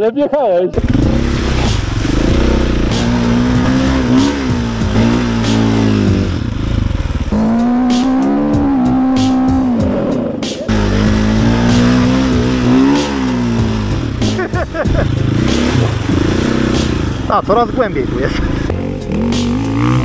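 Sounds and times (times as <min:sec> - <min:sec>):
dirt bike engine revving: 0:00.8 - 0:20.0.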